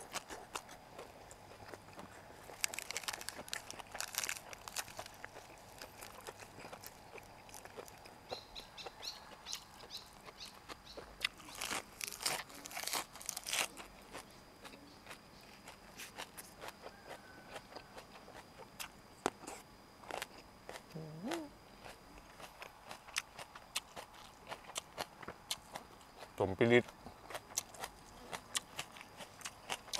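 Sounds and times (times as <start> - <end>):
crisp chewing crunches: 0.0 - 29.9.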